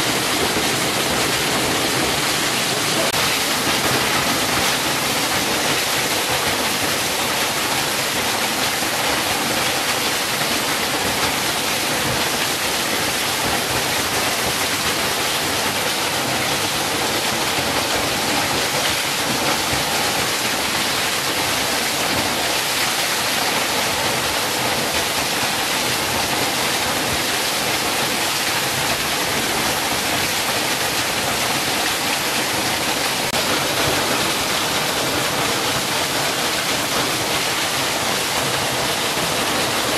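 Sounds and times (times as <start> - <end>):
waterfall splashing onto rocks: 0.0 - 39.9.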